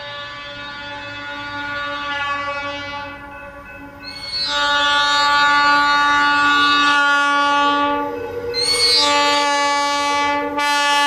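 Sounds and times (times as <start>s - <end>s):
train air horn blast: 0.0s - 3.3s, 4.4s - 11.0s.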